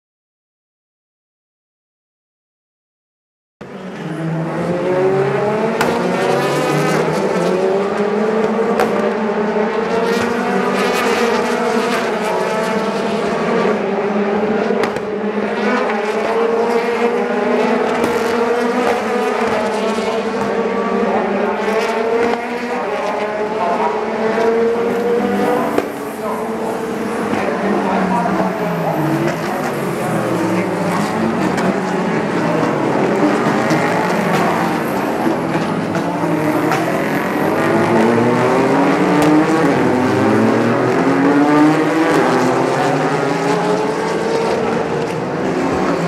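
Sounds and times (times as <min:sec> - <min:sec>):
race car engines accelerating: 0:03.6 - 0:46.0.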